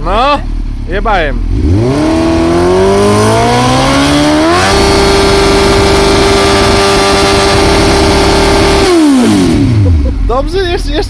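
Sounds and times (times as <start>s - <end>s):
engine revving: 0.9s - 10.4s.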